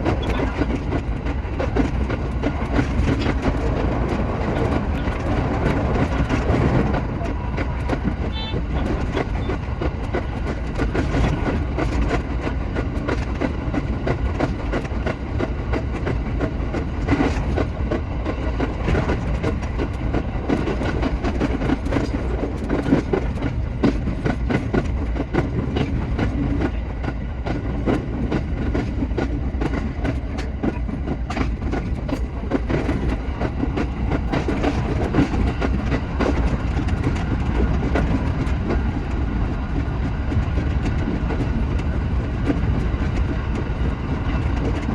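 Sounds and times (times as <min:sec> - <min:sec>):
electric train rumbling: 0:00.0 - 0:44.9
wheels clicking over rail joints: 0:00.0 - 0:44.9.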